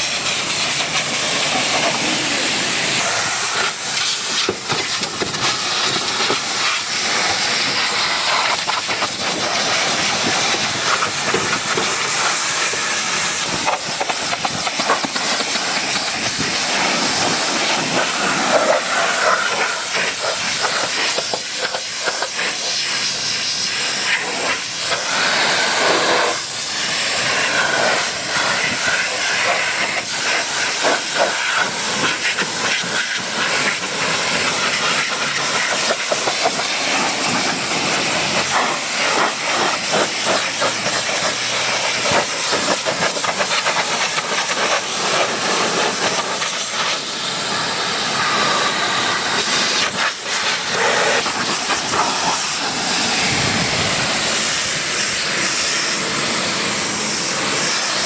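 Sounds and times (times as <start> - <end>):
pressure washer spraying car: 0.0 - 58.0.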